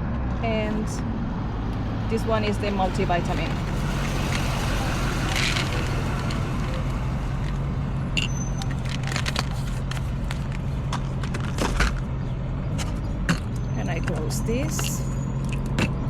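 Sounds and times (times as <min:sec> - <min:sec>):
car engine humming: 0:00.0 - 0:16.0.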